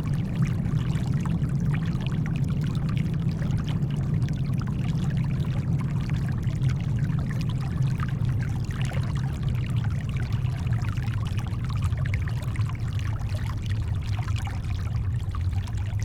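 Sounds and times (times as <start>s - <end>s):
small splashes and trickles: 0.0s - 16.0s.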